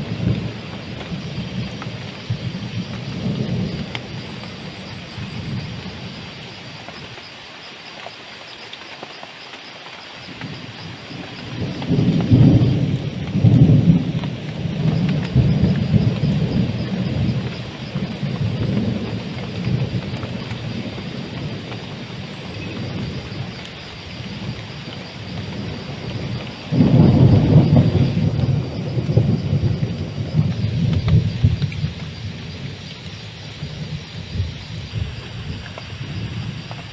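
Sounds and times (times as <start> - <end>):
thunder rumbling: 0.0 - 7.2, 10.3 - 36.9
heavy rain falling: 0.0 - 36.9.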